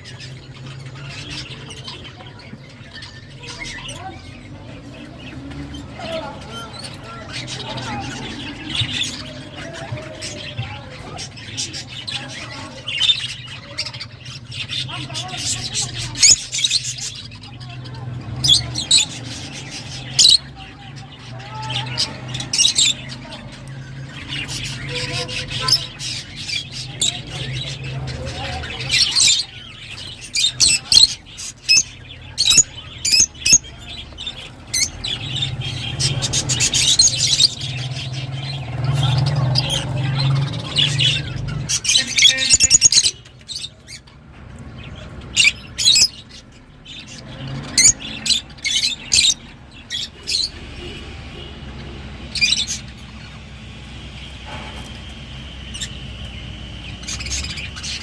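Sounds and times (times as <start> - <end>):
lovebirds chirping and squeaking: 0.0 - 58.0.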